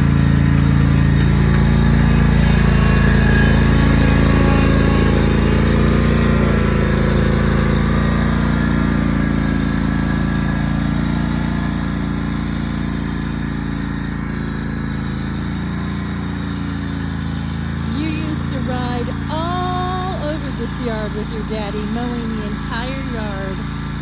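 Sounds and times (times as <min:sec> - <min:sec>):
riding lawn mower engine: 0:00.0 - 0:24.0.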